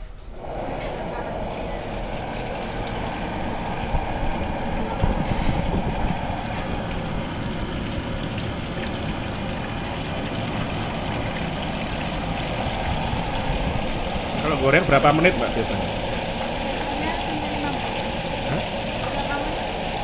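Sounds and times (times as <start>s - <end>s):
gas burner roar: 0.0s - 20.0s
oil bubbling: 0.3s - 20.0s.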